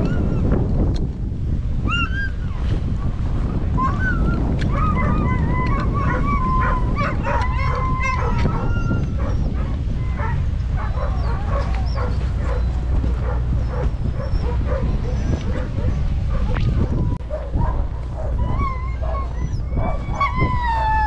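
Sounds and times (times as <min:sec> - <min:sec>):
dogs whining and howling: 0:00.0 - 0:00.5, 0:01.8 - 0:02.7, 0:03.6 - 0:21.0
wind rumble on microphone: 0:00.0 - 0:21.0.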